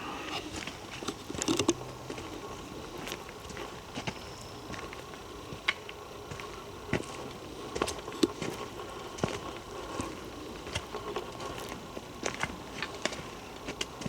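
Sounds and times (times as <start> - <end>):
faint steady hum: 0.0 - 14.0
footsteps on trail: 0.4 - 14.0.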